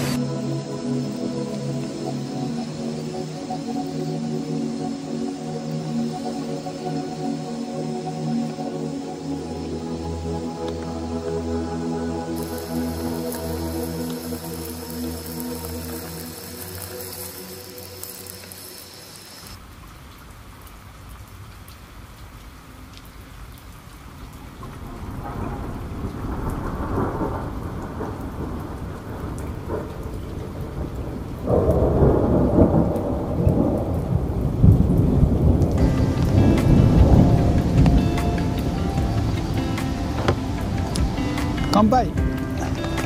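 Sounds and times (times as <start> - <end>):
thunder rumbling: 0.0 - 19.6, 24.6 - 43.0
rain: 0.0 - 43.0.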